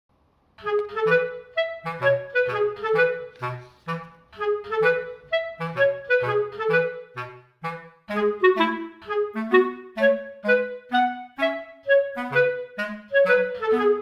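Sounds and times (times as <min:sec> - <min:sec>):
bouncy instrumental music: 0:00.6 - 0:14.0.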